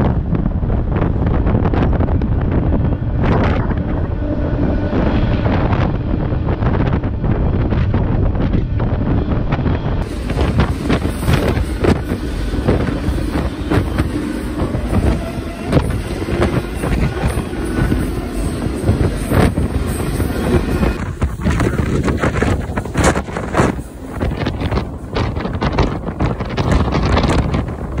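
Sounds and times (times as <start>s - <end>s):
freight train rumbling and rattling: 0.0s - 28.0s
wind buffeting microphone: 0.0s - 28.0s.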